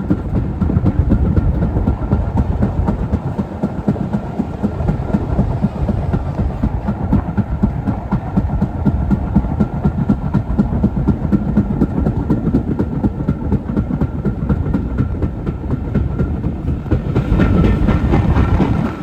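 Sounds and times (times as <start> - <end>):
train rumbling past: 0.0 - 19.0
train wheel clicks: 0.0 - 19.0.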